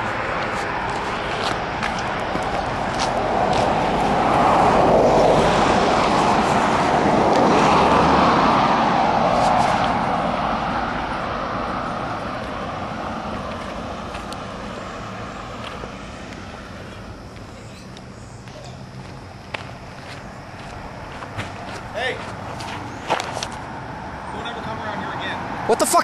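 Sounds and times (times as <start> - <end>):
car passing: 0.0 - 26.0.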